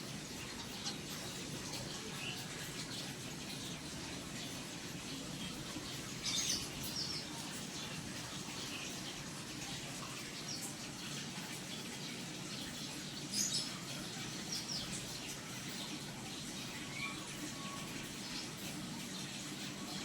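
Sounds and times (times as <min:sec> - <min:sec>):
small birds chirping: 0:00.0 - 0:20.0
water trickling: 0:00.0 - 0:20.0.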